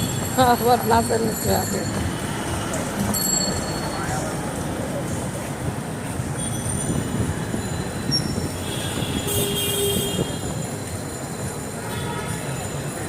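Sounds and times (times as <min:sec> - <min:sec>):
vehicle rumble in motion: 0:00.0 - 0:13.0.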